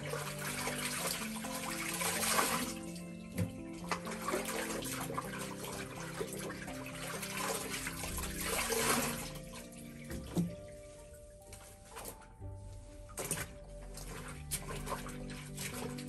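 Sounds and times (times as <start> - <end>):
soft background music: 0.0 - 16.0
water sloshing in a bathtub: 0.0 - 16.0.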